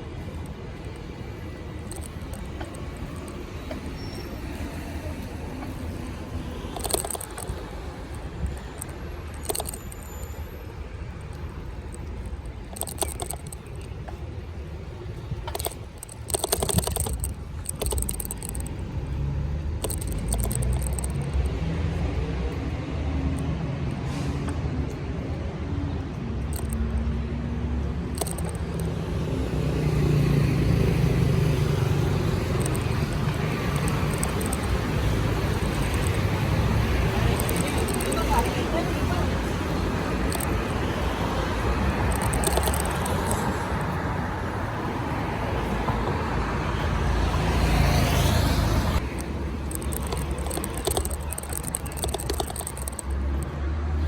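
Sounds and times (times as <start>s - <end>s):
street traffic rumble: 0.0s - 54.0s
vehicle engine hum: 0.0s - 54.0s
rattles and clicks: 0.2s - 10.4s, 11.2s - 22.0s, 26.4s - 27.1s, 27.8s - 44.3s, 47.3s - 53.6s.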